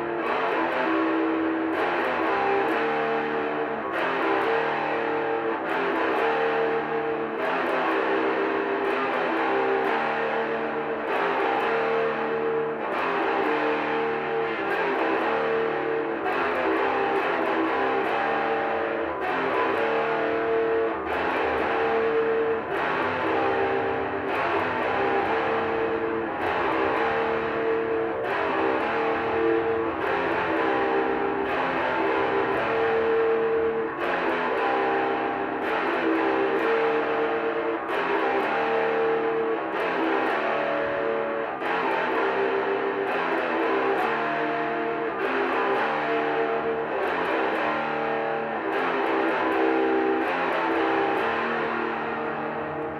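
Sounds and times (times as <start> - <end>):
guitar chords: 0.0 - 52.9.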